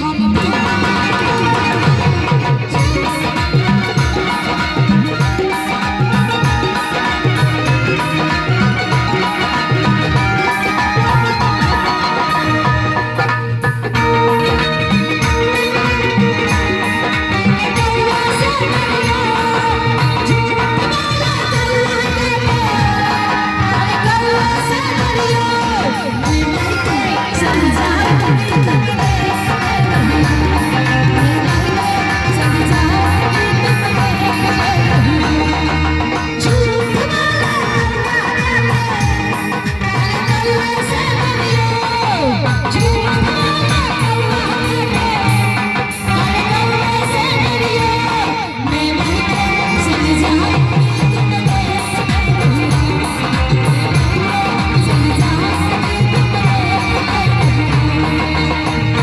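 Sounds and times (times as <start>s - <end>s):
film song with singing: 0.0s - 59.0s
stage music over pa system: 0.0s - 59.0s.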